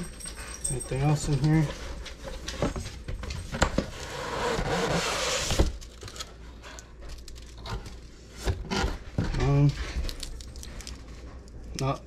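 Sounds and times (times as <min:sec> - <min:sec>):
cardboard packaging rustling: 0:01.5 - 0:11.2.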